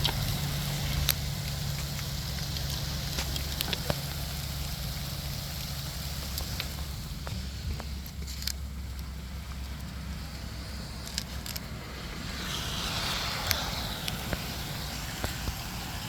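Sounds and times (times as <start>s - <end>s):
hiss: 0.0s - 7.8s, 10.4s - 16.0s
rain and ice falling: 0.0s - 7.8s, 9.8s - 16.0s
ice and drops ticking: 0.0s - 16.0s
low rumble: 0.0s - 16.0s.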